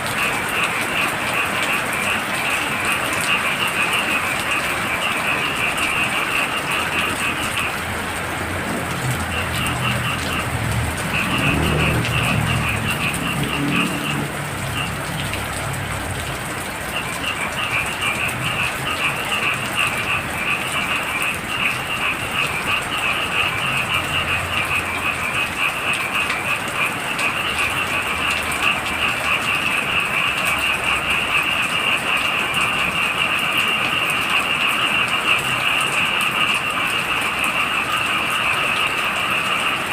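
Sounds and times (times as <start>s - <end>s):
frogs trilling: 0.0s - 39.9s
heavy rain falling: 0.0s - 39.9s.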